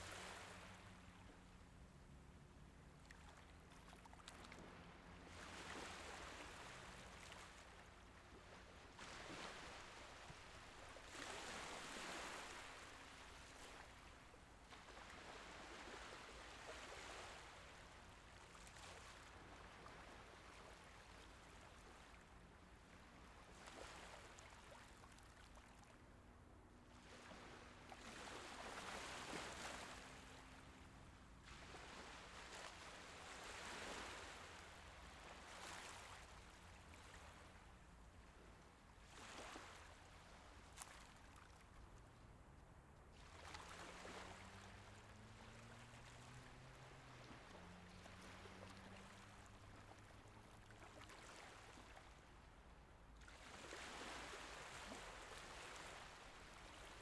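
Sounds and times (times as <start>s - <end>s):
gentle waves washing: 0.0s - 57.0s.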